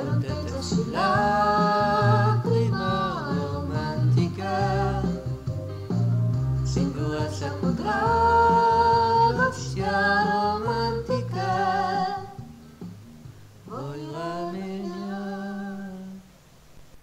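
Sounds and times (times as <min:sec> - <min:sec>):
karaoke singing: 0:00.0 - 0:12.6, 0:13.6 - 0:16.3
backing track: 0:00.0 - 0:15.2.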